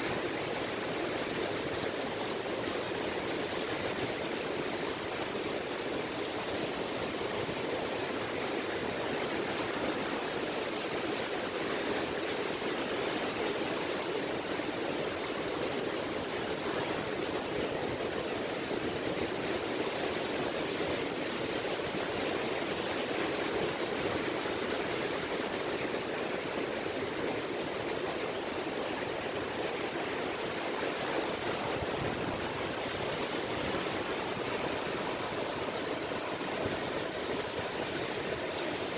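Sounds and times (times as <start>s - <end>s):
small waves lapping on beach: 0.0s - 38.9s.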